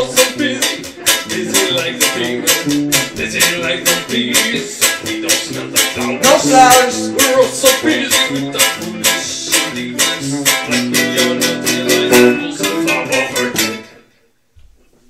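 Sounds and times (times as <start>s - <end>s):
strummed acoustic guitars: 0.0s - 14.1s.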